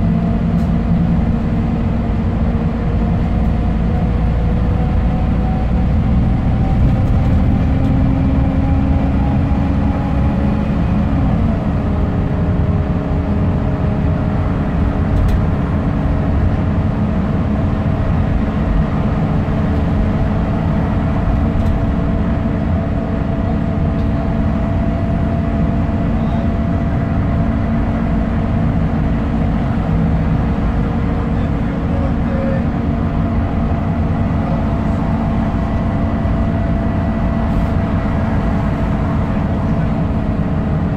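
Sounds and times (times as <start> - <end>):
bus engine rumble: 0.0 - 40.9
road noise: 0.0 - 40.9.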